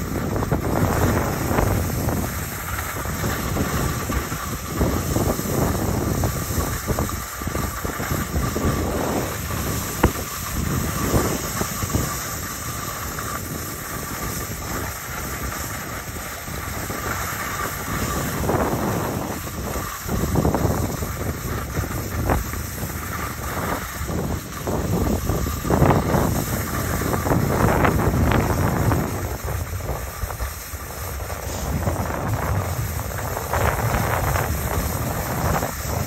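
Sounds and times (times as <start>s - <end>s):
skis scraping on snow: 0.0s - 36.0s
wind on microphone: 0.0s - 36.0s.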